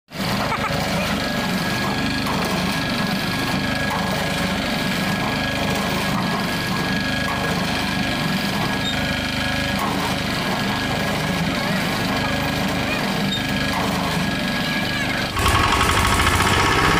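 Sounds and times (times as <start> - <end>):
small engine running: 0.1 - 16.9.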